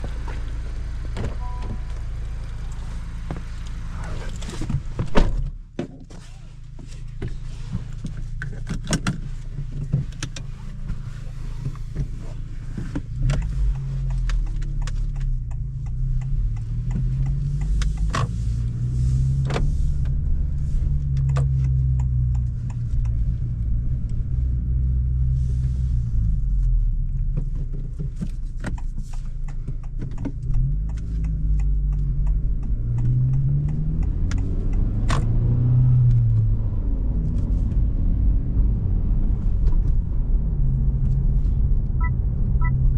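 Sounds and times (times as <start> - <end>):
car engine accelerating: 0.0 - 5.5, 6.2 - 42.9.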